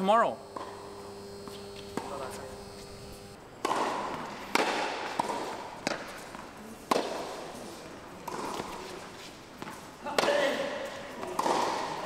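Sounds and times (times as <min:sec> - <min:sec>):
racket hitting tennis ball: 0:00.5 - 0:07.5, 0:08.2 - 0:08.8, 0:09.6 - 0:12.0.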